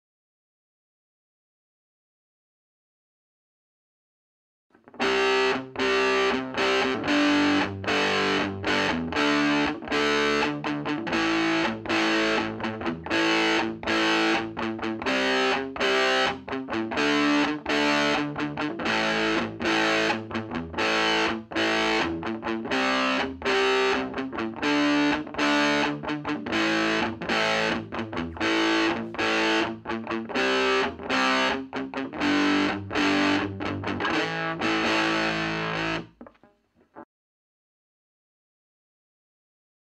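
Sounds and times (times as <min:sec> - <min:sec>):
distorted electric guitar riff: 0:04.9 - 0:37.0.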